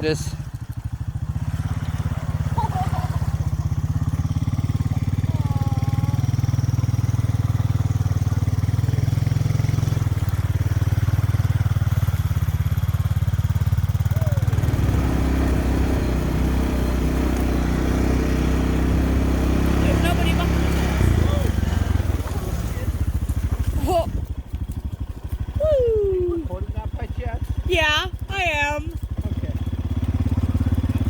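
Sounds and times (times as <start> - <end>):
quad engine running: 0.0 - 31.0.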